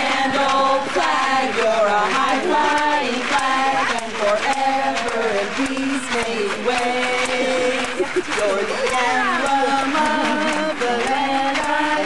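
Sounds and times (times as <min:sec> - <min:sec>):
voices singing a chant: 0:00.0 - 0:12.0.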